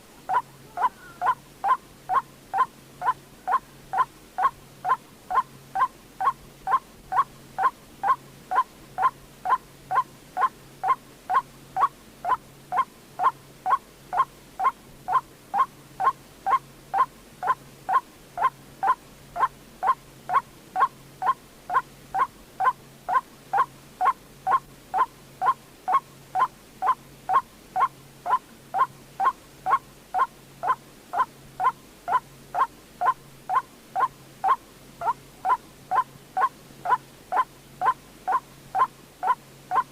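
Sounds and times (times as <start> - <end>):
waterhen call repeated: 0.1 - 39.9.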